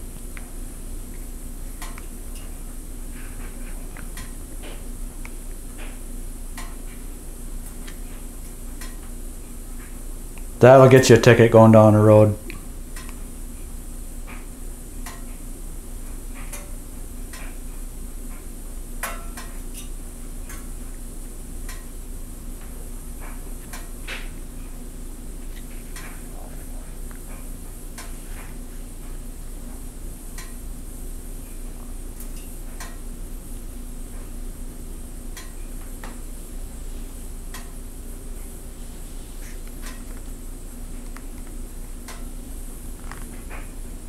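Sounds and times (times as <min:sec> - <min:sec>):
low electrical hum and hiss: 0:00.0 - 0:44.0.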